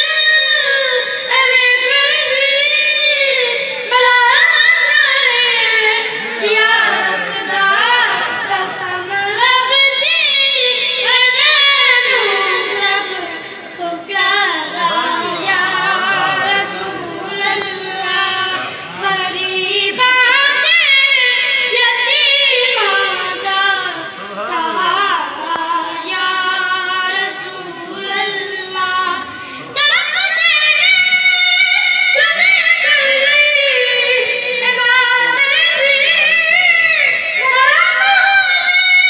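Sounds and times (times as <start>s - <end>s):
boys singing into a microphone: 0.0s - 39.0s.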